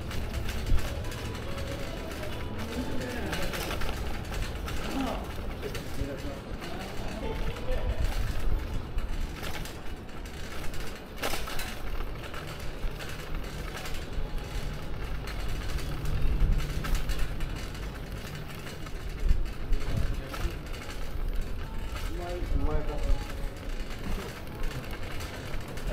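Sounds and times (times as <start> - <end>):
bicycle parts rattling and clicking: 0.0 - 25.9
tyres rumbling on brick paving: 0.0 - 25.9.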